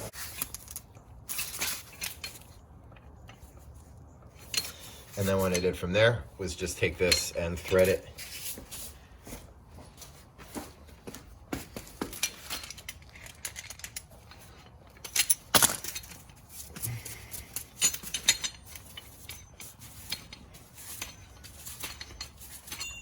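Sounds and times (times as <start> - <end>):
metal tools clinking and rattling: 0.0 - 8.6, 11.7 - 23.0.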